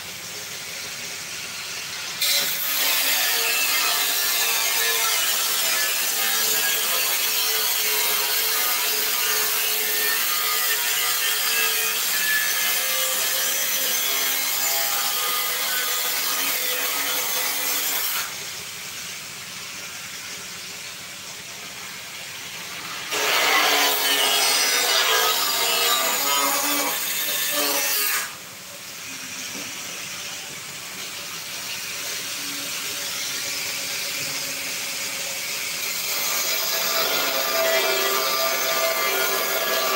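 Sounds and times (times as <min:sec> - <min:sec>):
angle grinder cutting steel: 0:02.2 - 0:18.6, 0:22.6 - 0:39.9.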